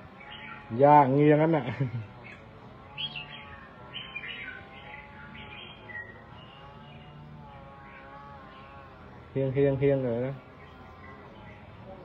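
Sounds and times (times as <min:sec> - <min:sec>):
caged bird chirping: 0:00.0 - 0:12.0.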